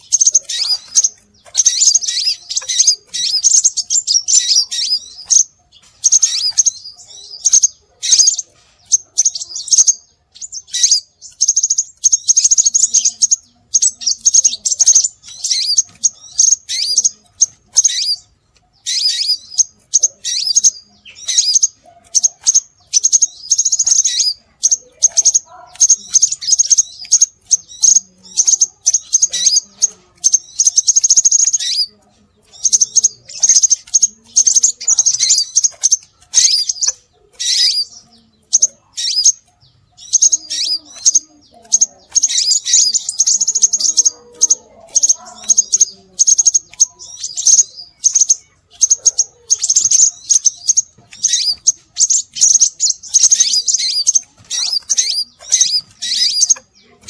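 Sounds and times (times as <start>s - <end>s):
bird chirps and twitters: 0.0s - 57.0s.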